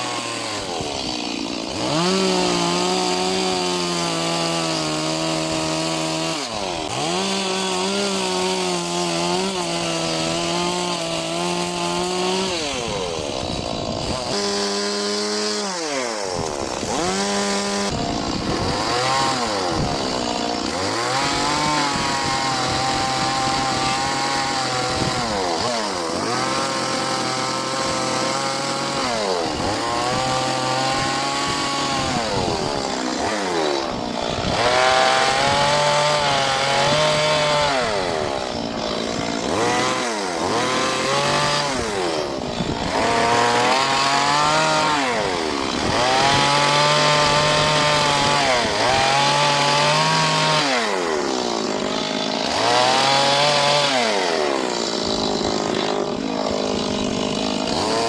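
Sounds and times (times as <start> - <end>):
chainsaw revving into wood: 0.0 - 58.0.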